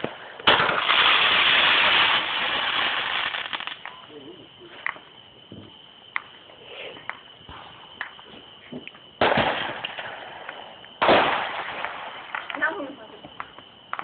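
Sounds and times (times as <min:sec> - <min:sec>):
fireworks popping and banging: 0:00.0 - 0:14.0.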